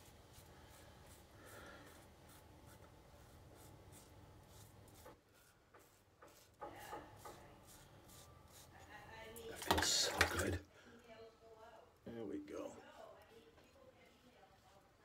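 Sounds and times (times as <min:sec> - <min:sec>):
razor scraping stubble: 0:00.0 - 0:10.0, 0:12.9 - 0:15.0.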